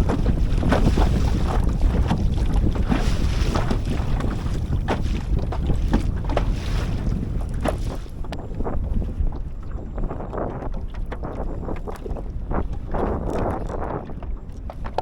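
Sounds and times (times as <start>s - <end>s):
water slapping against kayak: 0.0s - 15.0s
wind buffeting microphone: 0.0s - 15.0s.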